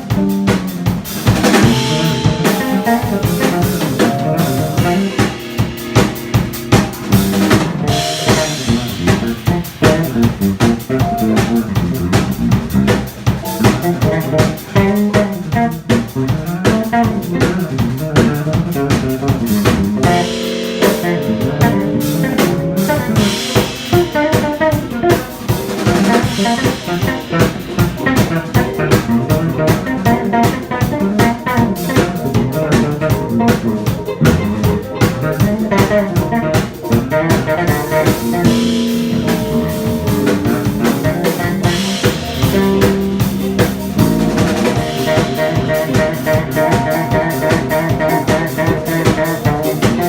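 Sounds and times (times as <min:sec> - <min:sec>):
drum kit: 0:00.0 - 0:50.0
jazz band playing: 0:00.0 - 0:50.0.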